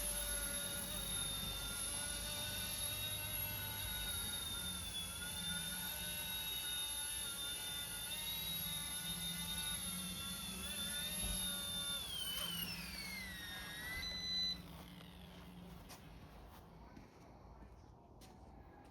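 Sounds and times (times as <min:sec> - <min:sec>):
toy helicopter rotor whine: 0:00.0 - 0:16.7.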